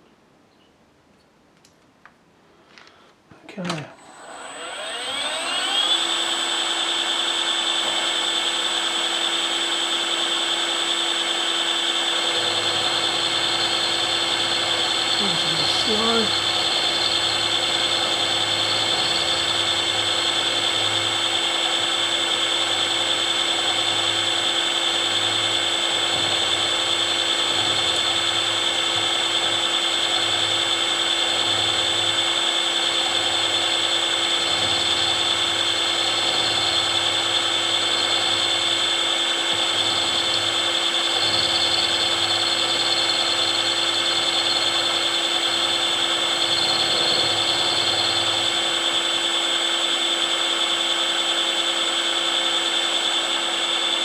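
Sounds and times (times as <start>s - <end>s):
milling machine cutting: 3.7s - 54.0s.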